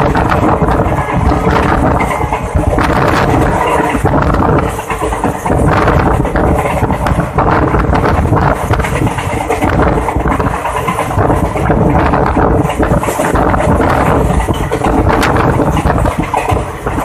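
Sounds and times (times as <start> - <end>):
train coach rattling: 0.0 - 17.0
train wheels on track: 0.0 - 17.0
wind buffeting microphone: 0.0 - 17.0.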